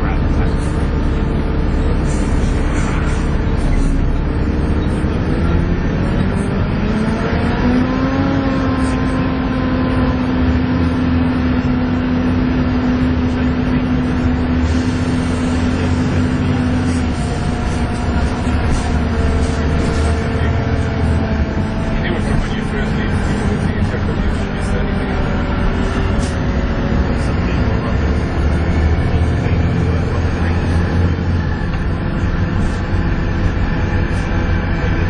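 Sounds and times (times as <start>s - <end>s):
bus engine whining under load: 0.0s - 35.0s.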